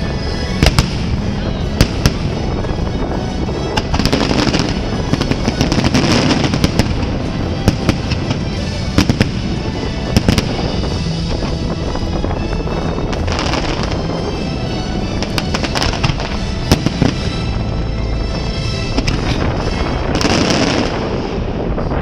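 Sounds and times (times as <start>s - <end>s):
continuous rumble: 0.0s - 22.0s
fireworks bangs and crackling: 0.0s - 22.0s
music: 0.0s - 22.0s.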